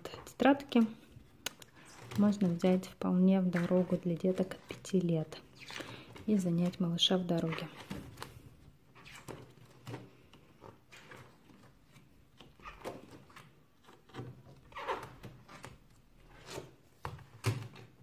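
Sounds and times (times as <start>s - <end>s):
book pages flipping: 0.1s - 18.0s.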